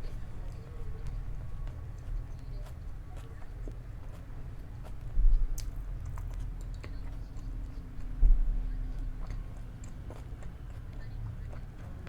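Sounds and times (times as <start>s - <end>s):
close chewing: 0.0s - 12.0s.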